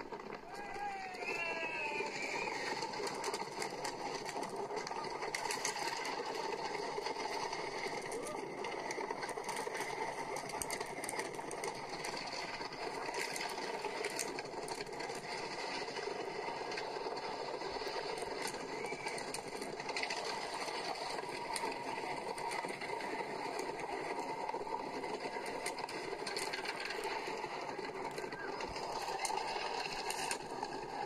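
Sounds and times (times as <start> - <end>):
wooden roller coaster rattling: 0.0 - 31.0.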